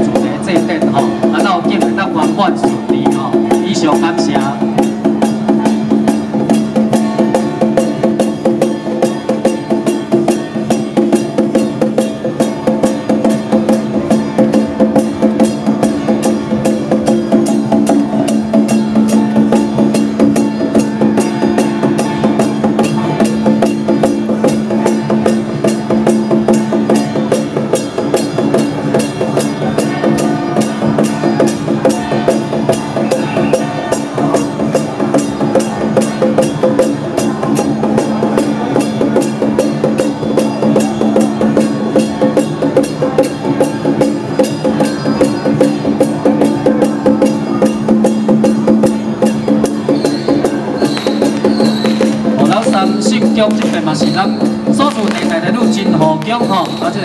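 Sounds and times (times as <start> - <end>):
drums and clacking percussion: 0.0 - 57.0
steady held tones: 0.0 - 57.0.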